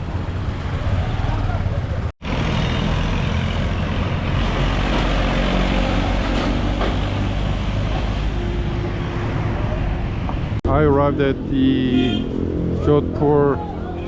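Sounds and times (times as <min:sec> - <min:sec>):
heavy vehicle engine rumbling: 0:00.0 - 0:14.0
street traffic: 0:00.0 - 0:14.0.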